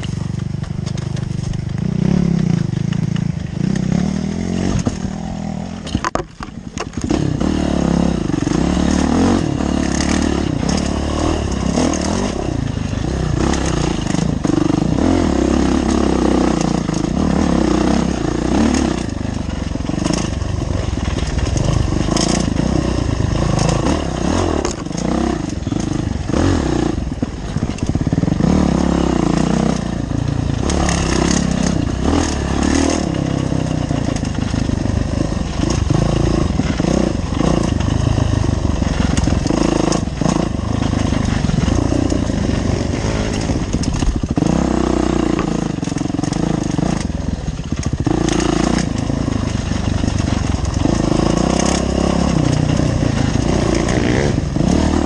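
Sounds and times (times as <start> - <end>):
bike chassis rattling: 0.0 - 4.0, 13.0 - 54.7
dirt bike engine revving: 0.0 - 6.2, 6.8 - 55.0.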